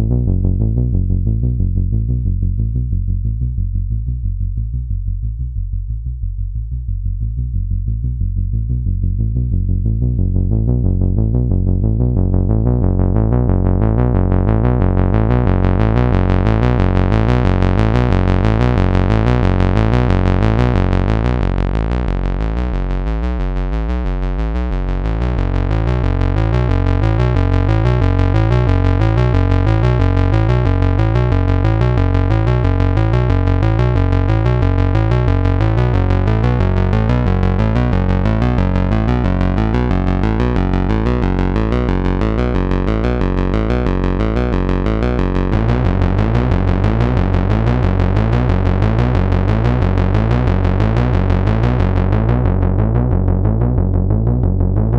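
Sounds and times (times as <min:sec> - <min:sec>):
synthesizer bassline: 0:00.0 - 0:54.9.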